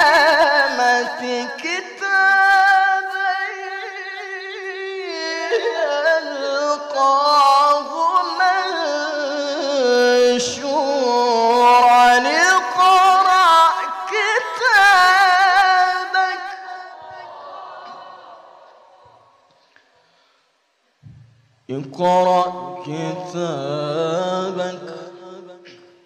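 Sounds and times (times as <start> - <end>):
man reciting melodically: 0.0 - 17.2, 21.6 - 26.0.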